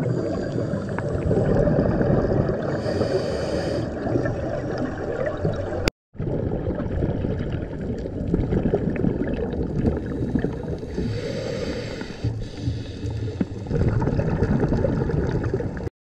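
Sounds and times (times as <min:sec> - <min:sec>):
muffled underwater rumble: 0:00.0 - 0:15.9
scuba exhaust bubbles gurgling: 0:00.0 - 0:15.9.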